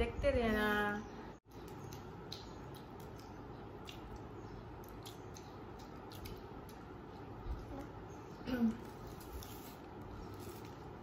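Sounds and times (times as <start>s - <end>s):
low room hum: 0.0s - 11.0s
chewing: 1.5s - 11.0s.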